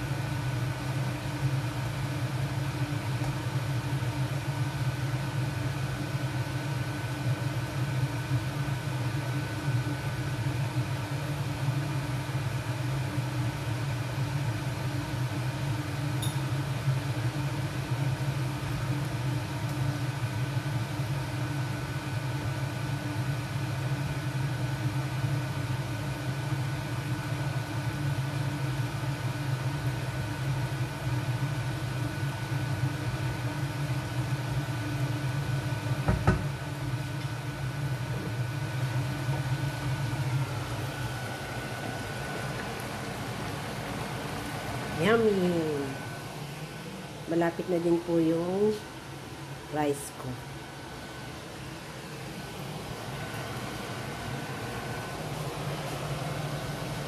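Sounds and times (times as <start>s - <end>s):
motor hum with high whine: 0.0s - 57.0s.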